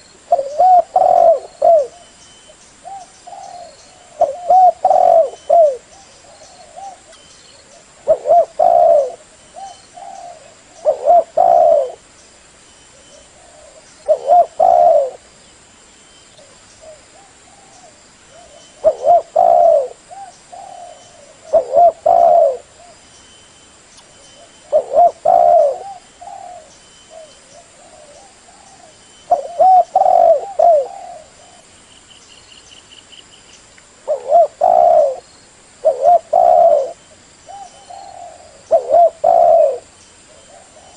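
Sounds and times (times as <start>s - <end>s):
dove cooing: 0.0s - 2.2s, 2.8s - 12.1s, 12.9s - 15.3s, 16.4s - 23.0s, 24.4s - 31.7s, 34.0s - 40.9s
small bird chirping: 0.0s - 40.9s.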